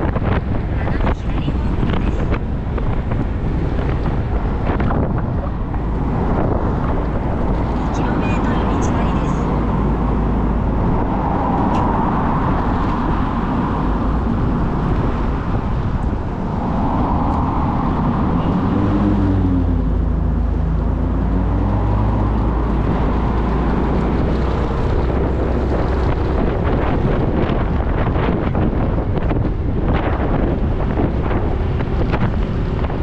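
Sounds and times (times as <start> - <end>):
wind and road noise: 0.0 - 33.0
wind buffeting microphone: 0.0 - 33.0.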